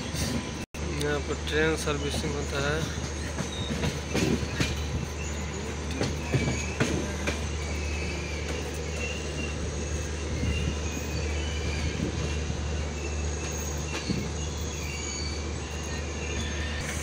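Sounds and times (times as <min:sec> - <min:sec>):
train wheels rumbling on rail: 0:00.0 - 0:17.0
high wheel squeals: 0:01.8 - 0:17.0.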